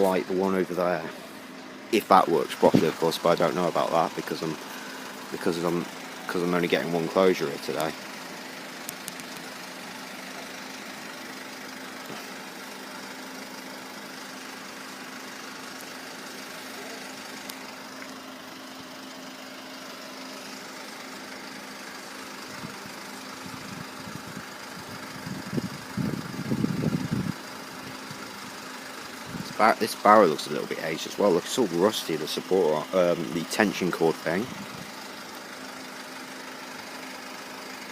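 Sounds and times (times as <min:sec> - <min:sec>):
vehicle engine idling: 0:00.0 - 0:37.9.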